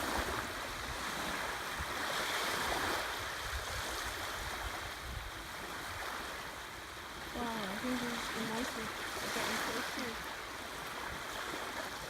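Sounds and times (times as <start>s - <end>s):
ocean surf washing up beach: 0.0s - 12.0s.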